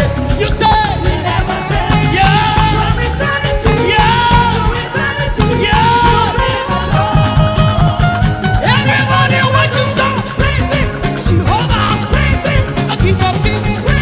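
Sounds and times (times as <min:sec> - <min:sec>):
live gospel band music: 0:00.0 - 0:14.0.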